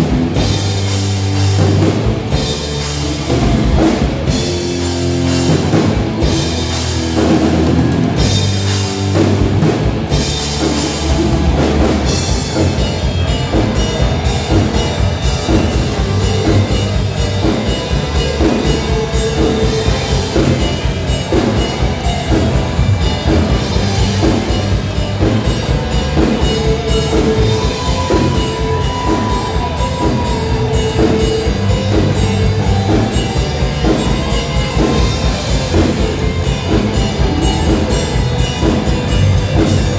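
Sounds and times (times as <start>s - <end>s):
driving drum beat: 0.0s - 39.9s
electric guitars playing a riff: 0.0s - 39.9s.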